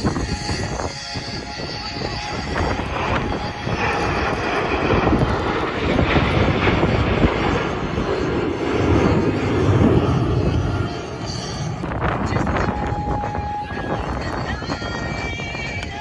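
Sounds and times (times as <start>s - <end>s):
jet engines flying over: 0.0s - 16.0s.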